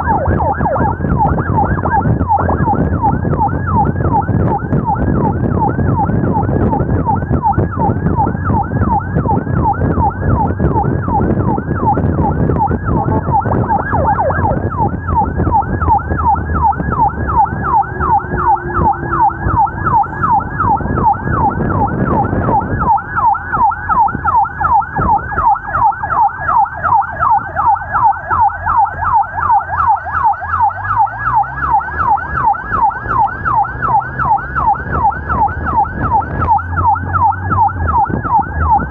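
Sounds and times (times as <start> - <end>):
ambulance siren yelping: 0.0 - 38.9
road and engine rumble: 0.0 - 38.9.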